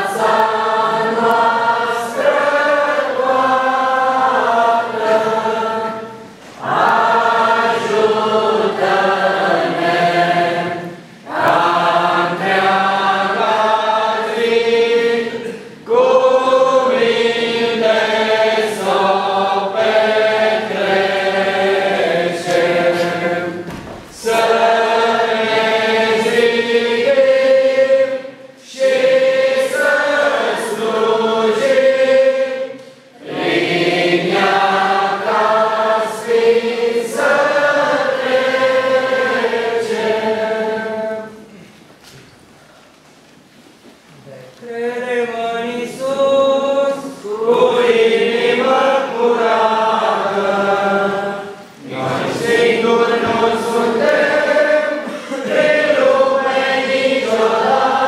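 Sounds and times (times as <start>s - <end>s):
congregation singing a hymn: 0.0s - 42.2s, 44.5s - 58.0s.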